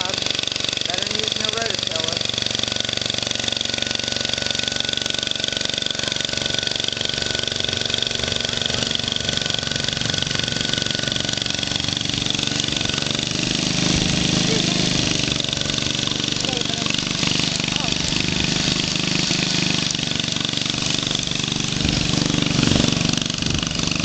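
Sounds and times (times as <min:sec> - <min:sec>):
garden tractor engine under load: 0:00.0 - 0:24.0.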